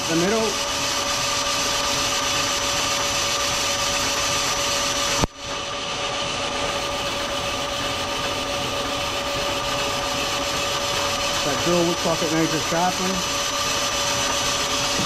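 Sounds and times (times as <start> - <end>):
lathe humming and whining: 0.0 - 15.0.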